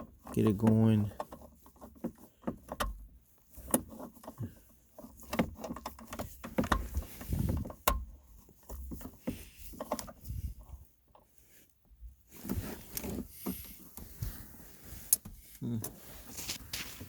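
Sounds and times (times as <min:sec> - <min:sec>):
low rubbing and handling noise: 0:00.0 - 0:17.0.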